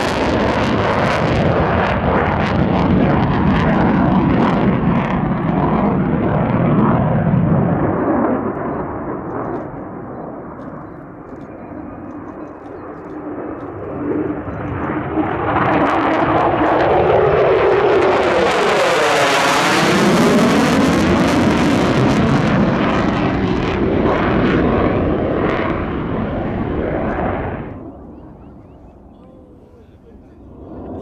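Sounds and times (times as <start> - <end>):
jet engine fly-past whoosh: 0.0 - 29.1.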